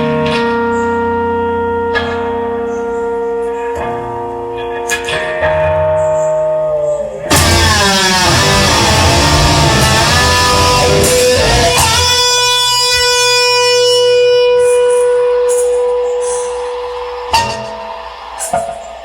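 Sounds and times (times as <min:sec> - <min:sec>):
electric guitar lead with bends: 0:00.0 - 0:19.0.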